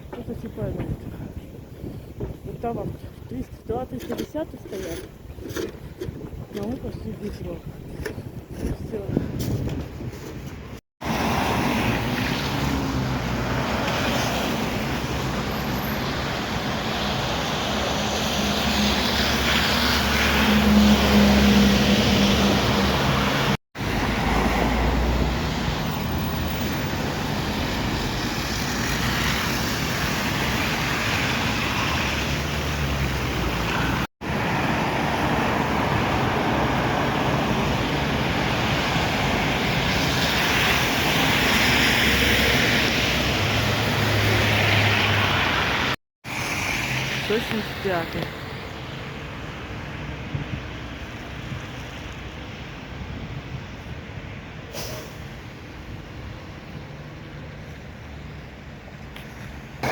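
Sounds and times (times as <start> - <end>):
city traffic noise: 0.0 - 59.9.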